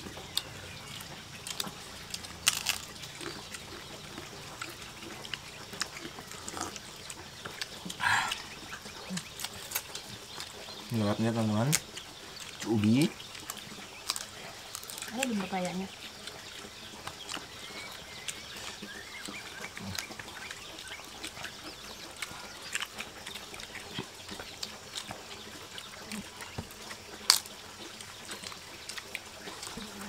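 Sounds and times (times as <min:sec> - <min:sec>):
people chewing and lip smacking: 0:00.0 - 0:30.0.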